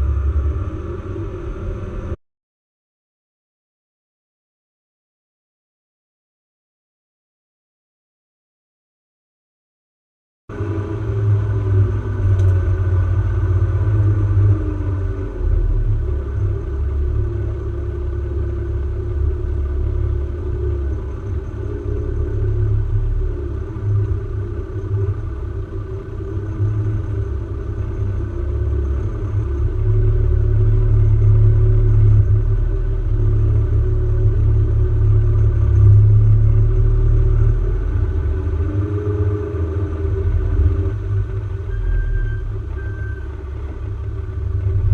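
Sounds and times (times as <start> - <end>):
vehicle engine rumbling: 0.0 - 2.2, 10.5 - 44.9.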